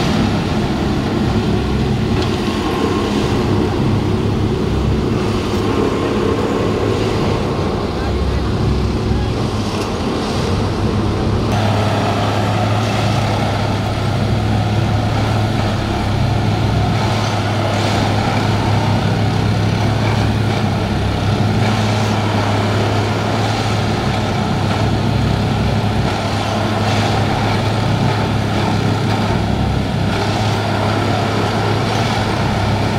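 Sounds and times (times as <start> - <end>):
machine engine drone: 0.0 - 32.9.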